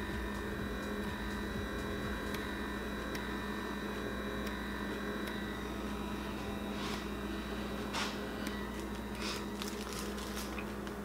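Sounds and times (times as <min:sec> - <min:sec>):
blackhead vacuum humming: 0:00.0 - 0:11.0.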